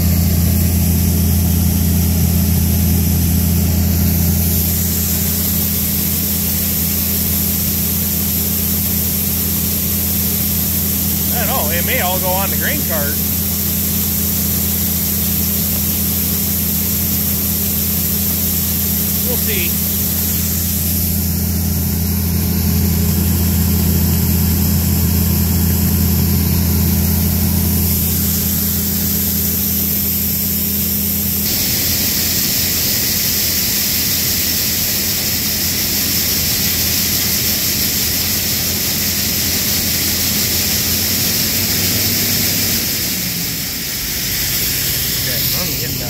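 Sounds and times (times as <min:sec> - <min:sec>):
heavy diesel engine running: 0:00.0 - 0:46.0
machinery hiss: 0:02.4 - 0:46.0.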